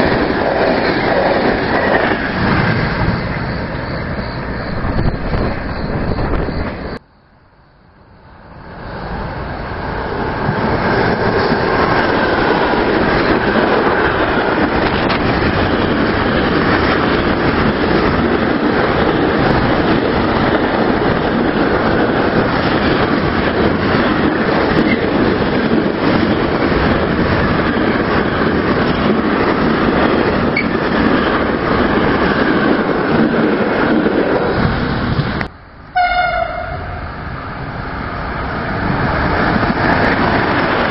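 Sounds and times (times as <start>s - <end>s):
train wheels rolling on rails: 0.0s - 7.1s, 8.2s - 40.9s.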